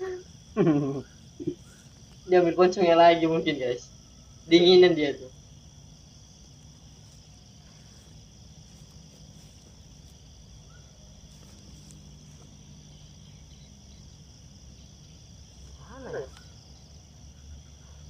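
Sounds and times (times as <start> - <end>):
crickets chirping: 0.0 - 18.0
faint low hum: 0.0 - 18.0.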